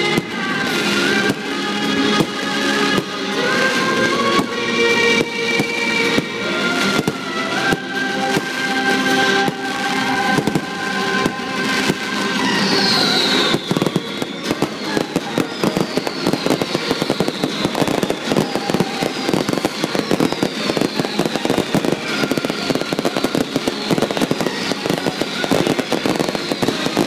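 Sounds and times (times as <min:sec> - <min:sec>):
falling fireworks whistles: 0:00.0 - 0:27.0
fireworks bangs and crackling: 0:00.0 - 0:27.0.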